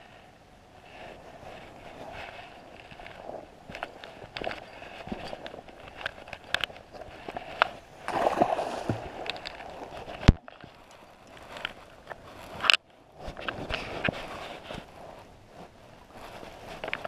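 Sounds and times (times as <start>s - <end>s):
jacket fabric rustling on microphone: 0.7s - 17.0s.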